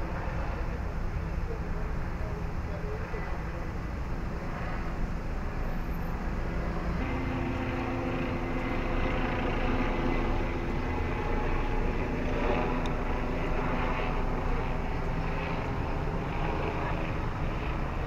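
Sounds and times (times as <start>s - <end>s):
engine drone: 0.0s - 18.0s
low hum: 0.0s - 18.0s.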